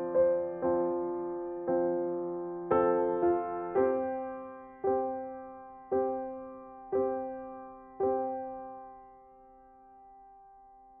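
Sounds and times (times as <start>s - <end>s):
soft piano chords: 0.0s - 11.0s.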